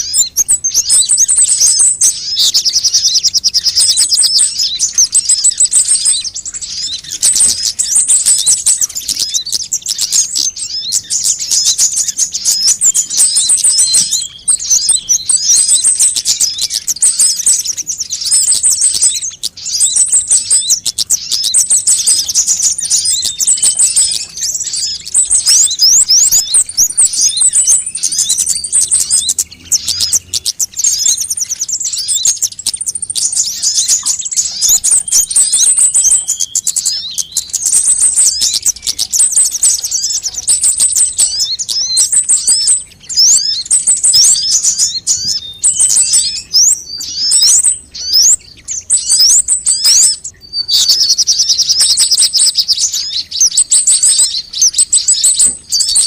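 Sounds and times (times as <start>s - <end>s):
sunbirds chirping and trilling: 0.0s - 56.0s.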